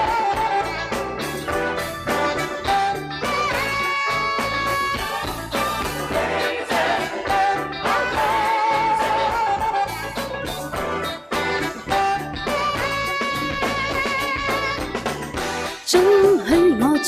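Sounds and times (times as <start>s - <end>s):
drums keeping a steady beat: 0.0s - 16.0s
horn or synth melody: 0.0s - 16.1s.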